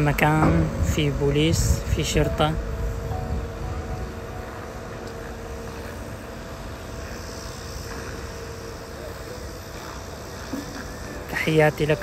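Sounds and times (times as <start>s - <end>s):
city background noise: 0.0s - 12.0s
faint hum: 0.0s - 12.0s.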